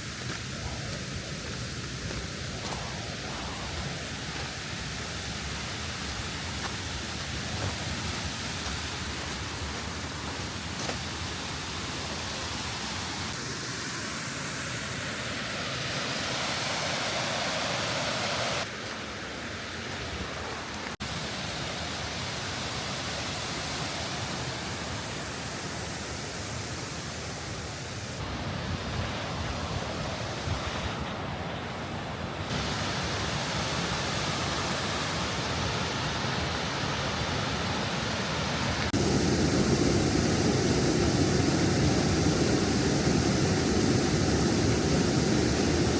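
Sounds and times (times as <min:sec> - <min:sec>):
rushing water roar: 0:00.0 - 0:45.9.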